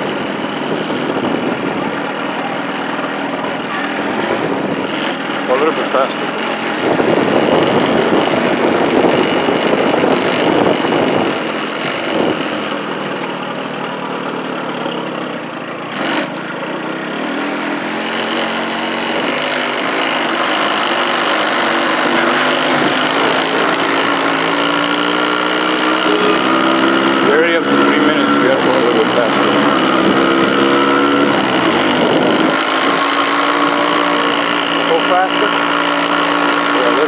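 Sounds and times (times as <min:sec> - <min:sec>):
road and wind noise: 0:00.0 - 0:37.0
vehicle engine running: 0:00.0 - 0:37.0.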